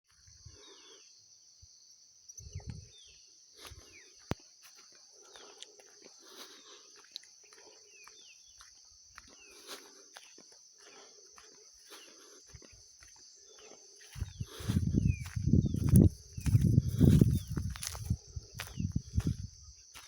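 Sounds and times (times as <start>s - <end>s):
insect drone: 0.1s - 20.0s
footsteps: 3.6s - 20.0s.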